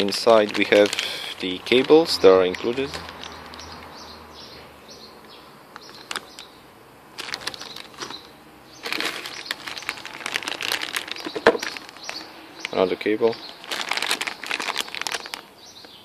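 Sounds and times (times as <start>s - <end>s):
plastic bags crinkling: 0.0s - 3.8s, 5.8s - 6.5s, 7.1s - 15.5s.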